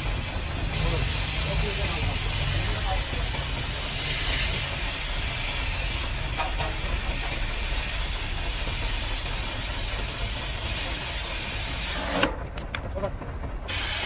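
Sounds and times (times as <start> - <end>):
steady hissing: 0.0 - 12.2, 13.7 - 14.0.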